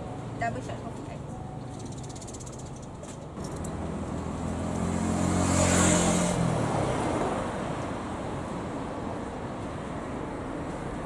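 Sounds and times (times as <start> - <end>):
vehicle passing: 0.0 - 9.0.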